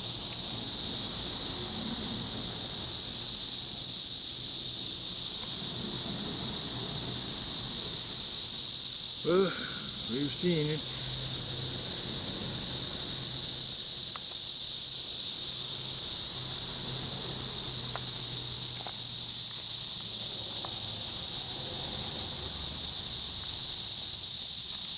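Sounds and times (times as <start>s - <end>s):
cicadas droning: 0.0s - 24.9s.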